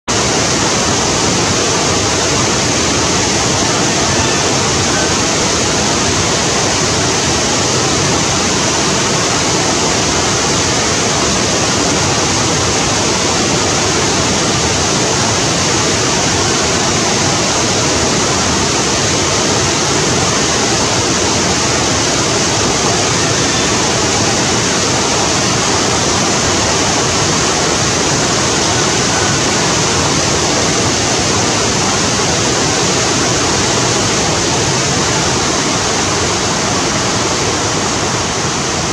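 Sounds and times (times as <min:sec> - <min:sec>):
water rushing over boulders: 0:00.0 - 0:38.9.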